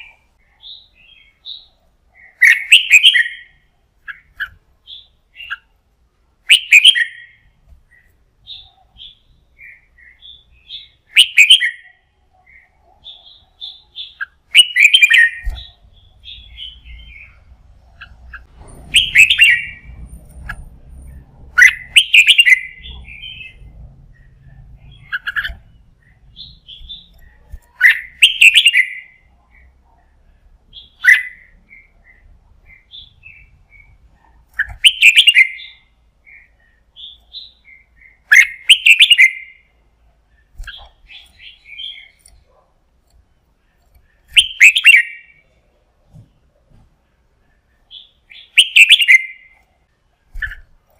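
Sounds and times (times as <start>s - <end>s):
bird singing chattering phrases: 0.0s - 5.8s, 6.4s - 20.1s, 21.1s - 42.6s, 43.6s - 45.6s, 47.4s - 49.6s.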